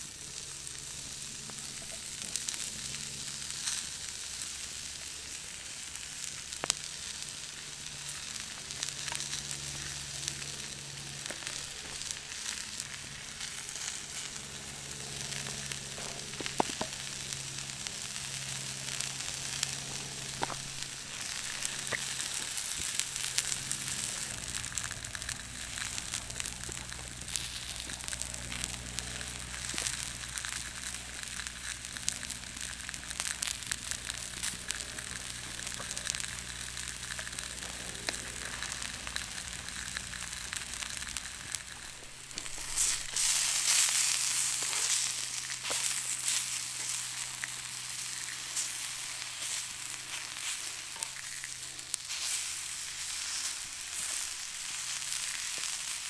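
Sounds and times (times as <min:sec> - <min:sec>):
vegetables sizzling on hot stone: 0:00.0 - 0:56.0.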